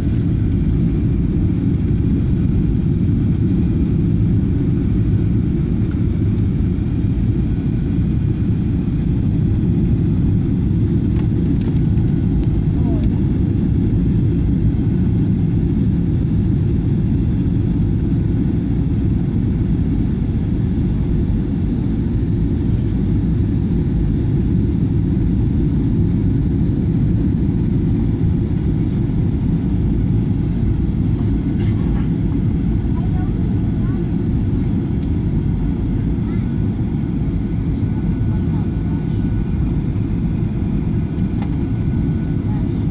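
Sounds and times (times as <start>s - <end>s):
jet engine low roar: 0.0s - 42.9s.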